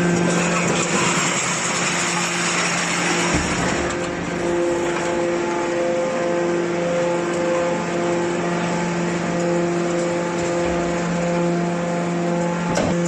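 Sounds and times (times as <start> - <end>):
machine hum: 0.0 - 13.0
motor and pump whir: 0.0 - 13.0.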